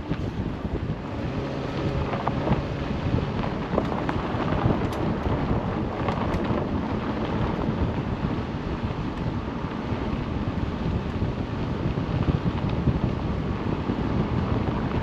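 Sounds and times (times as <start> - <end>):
car tyres rumbling on dirt road: 0.0 - 15.0.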